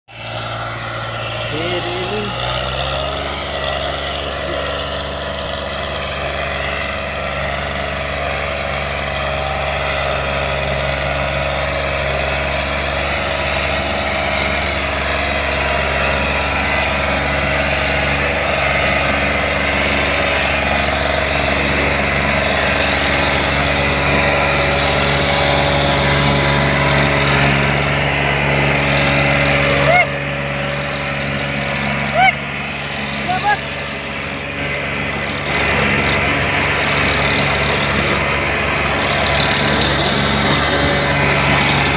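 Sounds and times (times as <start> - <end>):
diesel tractor engines running: 0.1 - 41.9.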